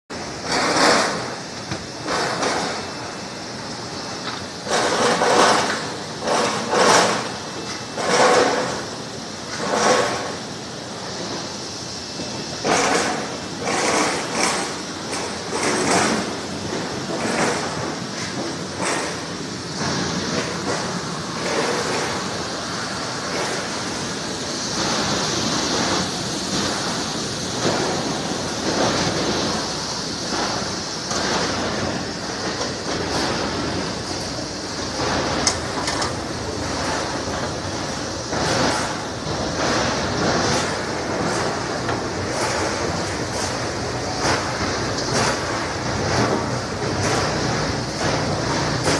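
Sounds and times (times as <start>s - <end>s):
water churning and splashing: 0.1s - 48.9s.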